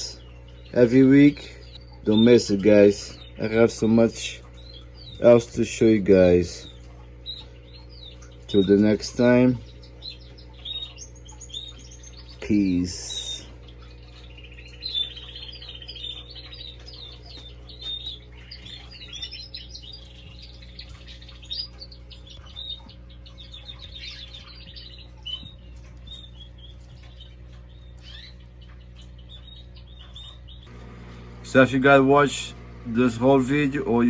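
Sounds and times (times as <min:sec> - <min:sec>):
birds chirping and twittering: 0:00.0 - 0:34.0
steady low hum: 0:00.0 - 0:34.0.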